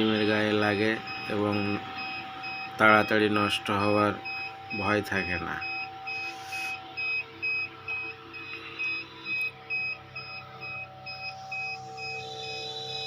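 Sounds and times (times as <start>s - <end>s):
electronic controller beeping: 0.0s - 13.0s
fan humming: 0.0s - 13.0s.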